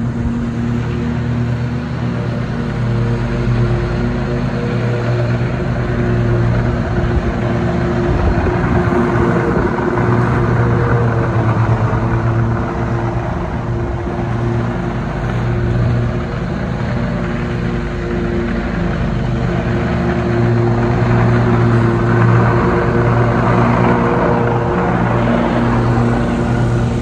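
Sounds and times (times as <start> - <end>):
riding mower engine running: 0.0 - 27.0.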